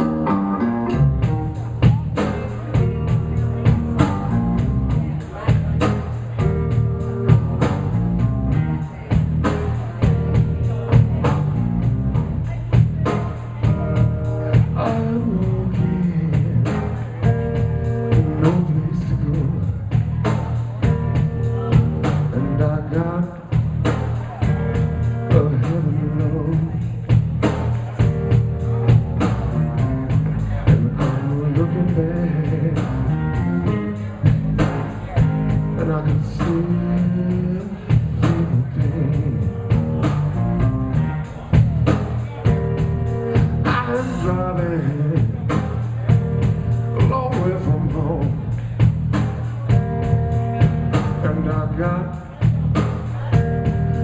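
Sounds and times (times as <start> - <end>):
drum kit beat: 0.0 - 54.0
guitar lines: 0.0 - 54.0
live blues band playing: 0.0 - 54.0.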